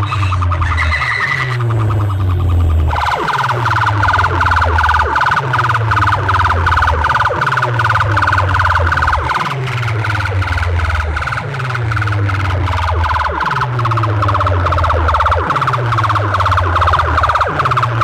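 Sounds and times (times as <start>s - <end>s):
heavy bass beat: 0.0s - 18.0s
pulsing siren-like electronic tone: 0.0s - 18.0s.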